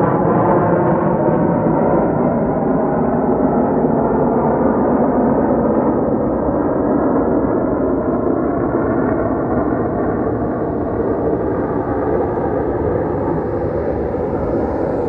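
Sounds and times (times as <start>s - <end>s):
jet aircraft taking off: 0.0s - 15.0s.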